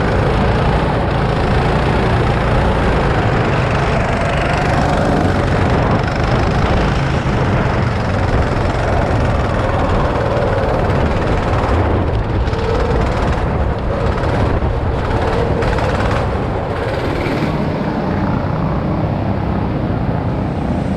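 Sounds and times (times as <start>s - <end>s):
go-kart engine buzzing drone: 0.0s - 20.9s.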